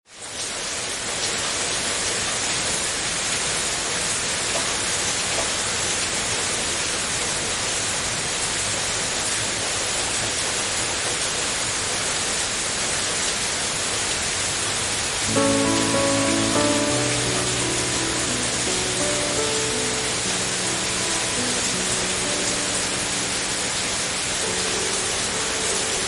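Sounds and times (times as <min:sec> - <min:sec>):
steady rain falling: 0:00.1 - 0:26.0.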